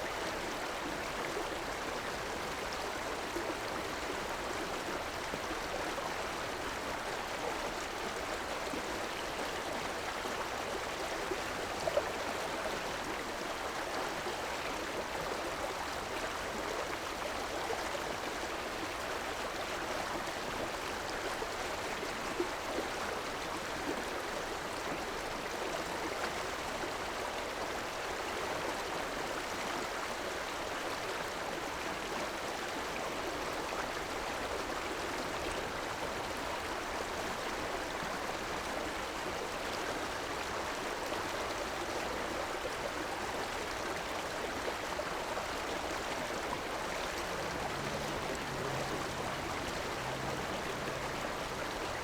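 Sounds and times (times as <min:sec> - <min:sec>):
river flowing: 0:00.0 - 0:52.0.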